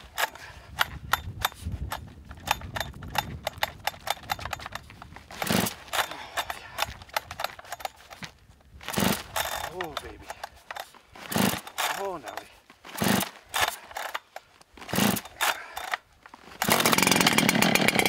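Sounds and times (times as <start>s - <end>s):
chainsaw idling rough: 0.0s - 18.0s.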